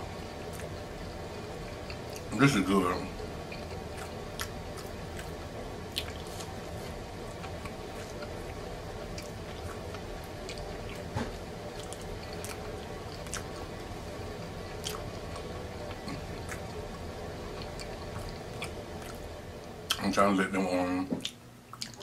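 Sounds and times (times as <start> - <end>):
chewing and biting food: 0.4 - 2.3, 3.2 - 20.0, 21.2 - 22.0.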